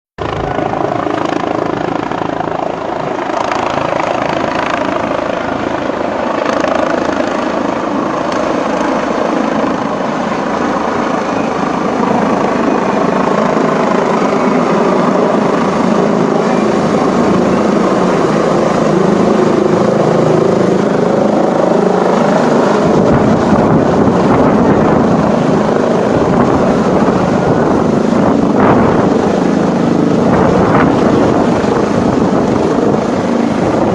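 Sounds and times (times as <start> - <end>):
helicopter rotor and engine: 0.2 - 33.9.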